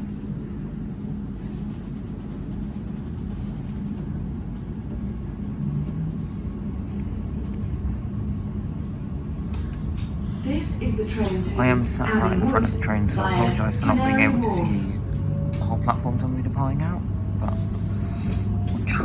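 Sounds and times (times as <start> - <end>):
constant hum: 0.0 - 19.0
train running gear rumble: 0.0 - 19.0.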